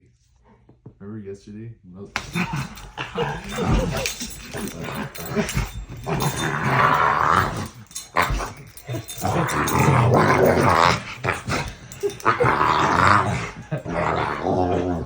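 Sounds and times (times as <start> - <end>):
dog growling: 2.2 - 15.0.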